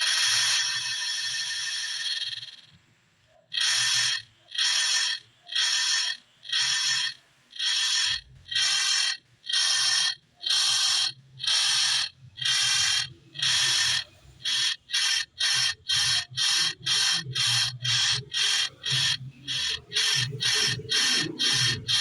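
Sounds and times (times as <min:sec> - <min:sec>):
processed clock ticking bursts: 0:00.0 - 0:22.0.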